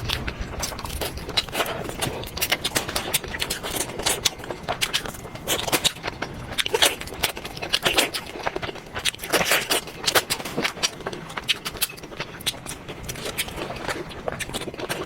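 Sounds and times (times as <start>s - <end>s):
crunching and chewing food: 0.0s - 15.0s.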